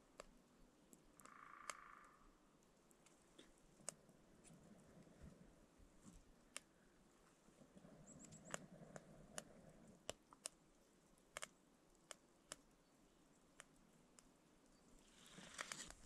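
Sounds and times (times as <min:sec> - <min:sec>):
faint sharp clicks and pops: 0:00.0 - 0:16.0.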